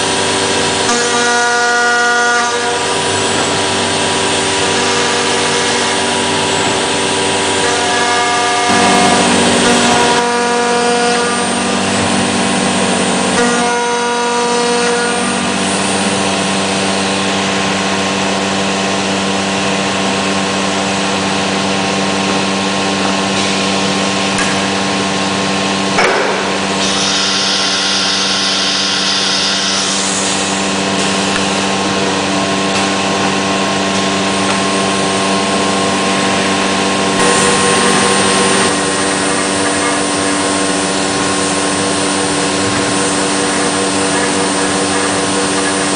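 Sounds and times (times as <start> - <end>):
router spindle machining wood: 0.0 - 45.9.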